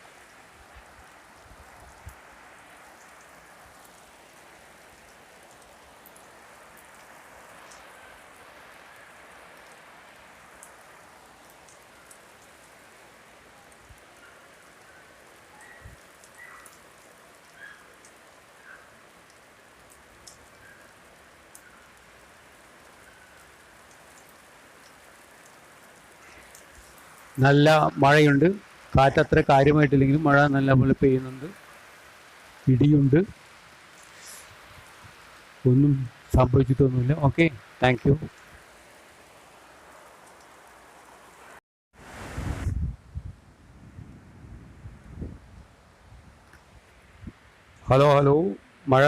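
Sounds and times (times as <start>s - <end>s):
drips and ticks: 0.0s - 41.6s, 46.4s - 49.0s
steady rain hiss: 0.0s - 49.0s.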